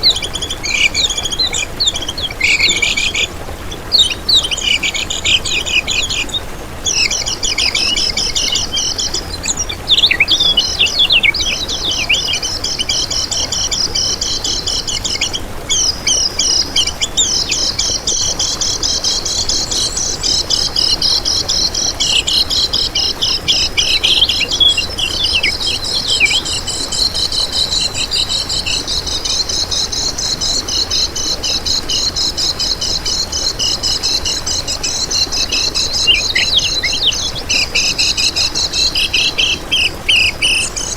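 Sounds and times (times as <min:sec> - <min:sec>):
songbird twittering: 0:00.0 - 0:40.9.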